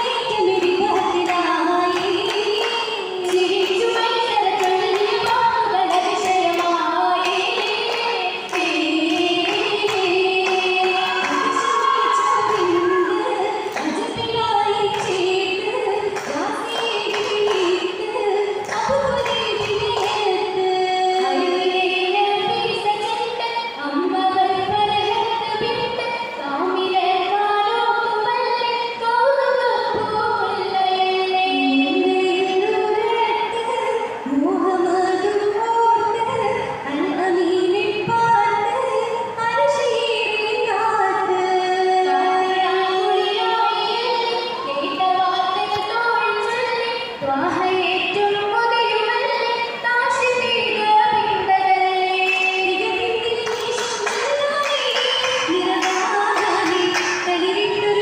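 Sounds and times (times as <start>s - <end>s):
women singing: 0.0s - 58.0s.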